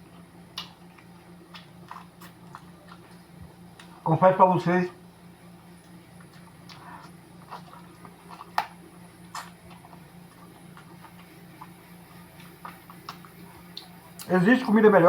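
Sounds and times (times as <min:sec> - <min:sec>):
wet chewing and sucking: 0:00.0 - 0:04.0, 0:05.7 - 0:14.3
steady low hum: 0:00.0 - 0:15.0.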